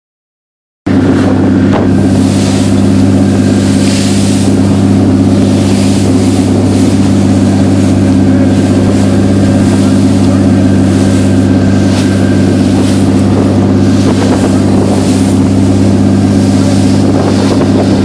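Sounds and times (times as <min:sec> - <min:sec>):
boat engine hum: 0:00.9 - 0:18.0
wind and water hiss: 0:00.9 - 0:18.0.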